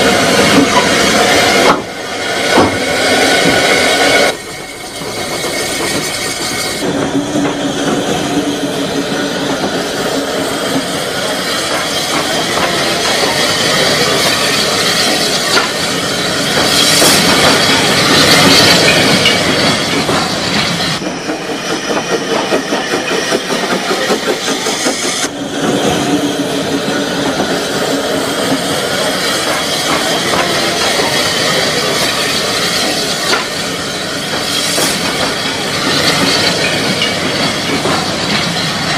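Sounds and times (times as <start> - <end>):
steam tram rail noise: 0.0 - 38.9.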